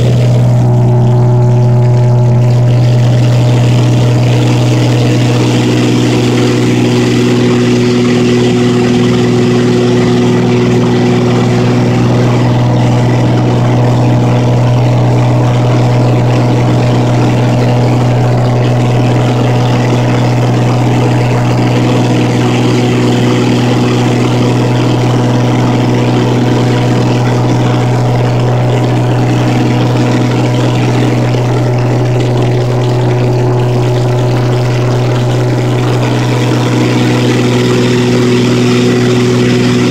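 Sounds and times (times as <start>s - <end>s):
propeller airplane engines droning: 0.0s - 39.9s.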